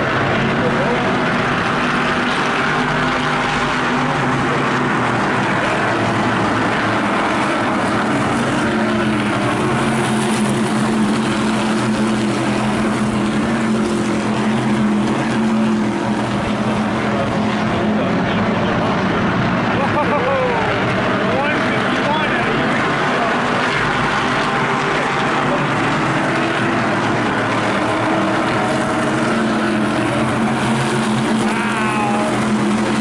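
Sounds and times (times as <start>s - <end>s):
race car engines roaring: 0.0s - 33.0s.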